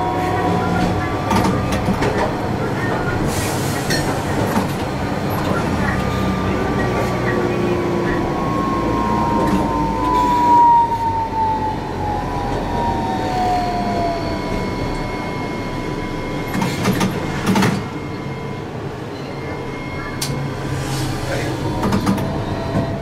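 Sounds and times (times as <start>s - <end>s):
tram motor whine: 0.0s - 23.0s
wheels rumbling on rail: 0.0s - 23.0s.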